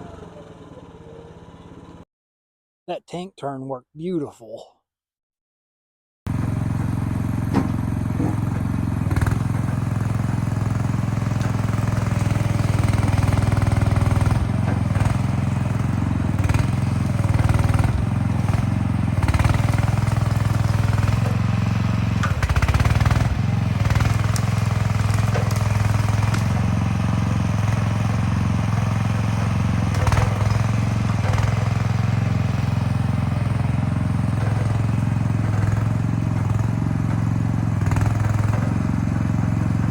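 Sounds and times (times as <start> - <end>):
skid steer engine running: 0.0 - 2.0, 6.3 - 39.9.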